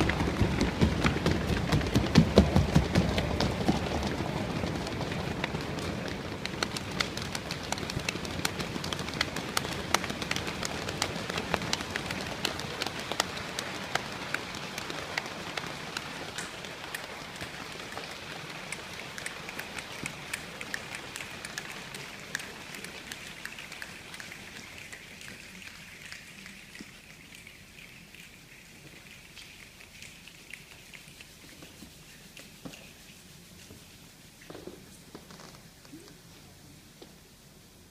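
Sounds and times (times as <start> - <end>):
audience hand rainstorm patter: 0.0 - 37.9.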